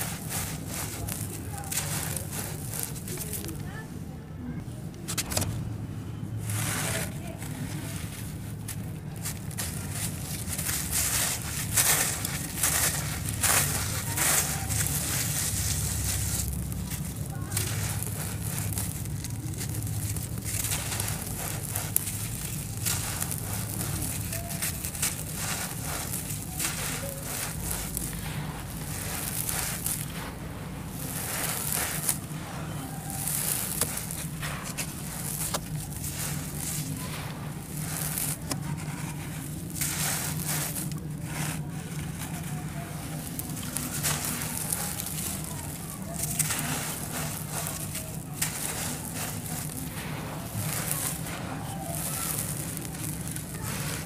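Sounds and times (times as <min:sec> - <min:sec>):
loose grains pouring onto sand: 0:00.0 - 0:03.8, 0:06.4 - 0:54.0
cement lumps crackling in hands: 0:00.0 - 0:54.0.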